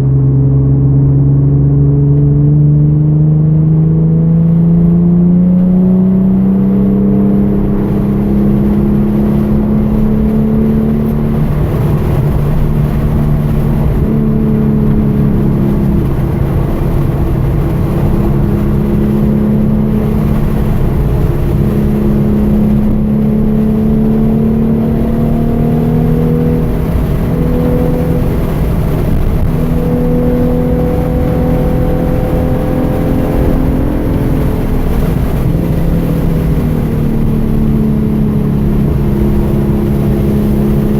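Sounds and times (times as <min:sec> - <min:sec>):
car engine revving hard: 0:00.0 - 0:40.9.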